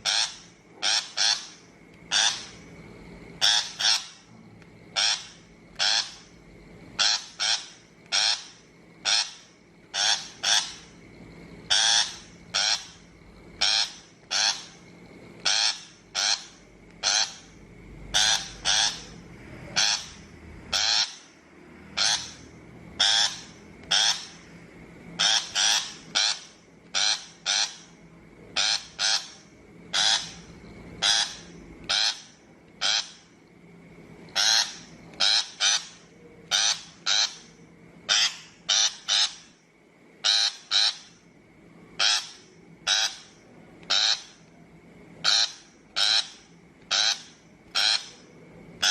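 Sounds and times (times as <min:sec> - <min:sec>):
shrike harsh rasping calls: 0:00.0 - 0:02.8, 0:03.4 - 0:04.3, 0:04.9 - 0:11.0, 0:11.6 - 0:33.4, 0:34.2 - 0:39.6, 0:40.2 - 0:41.3, 0:42.0 - 0:44.5, 0:45.1 - 0:48.9.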